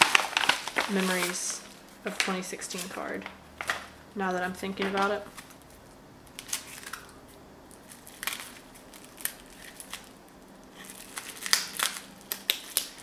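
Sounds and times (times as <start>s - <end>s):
packaging crinkling: 0.0s - 4.0s, 4.8s - 13.0s.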